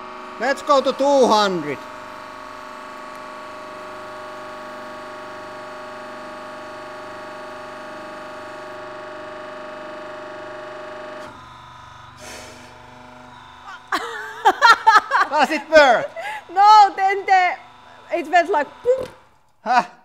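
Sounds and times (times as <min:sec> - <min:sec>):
pump whining: 0:00.0 - 0:19.8.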